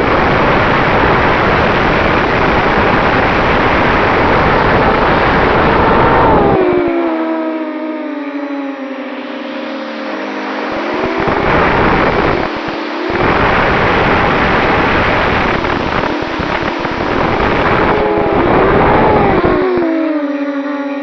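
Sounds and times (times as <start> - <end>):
wind noise on microphone: 0.0 - 7.3, 10.1 - 21.0
drone propellers whining: 0.0 - 21.0.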